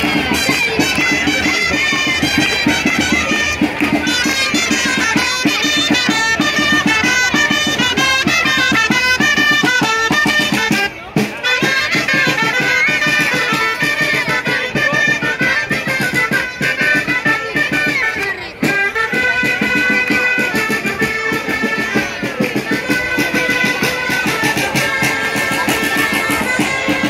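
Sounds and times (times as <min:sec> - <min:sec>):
shawm band playing march: 0:00.0 - 0:27.0
steady drum beat: 0:00.0 - 0:27.0.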